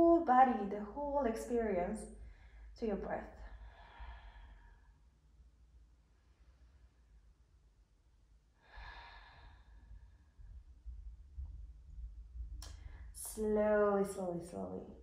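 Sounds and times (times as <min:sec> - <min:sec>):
faint low rumble: 0:00.0 - 0:15.0.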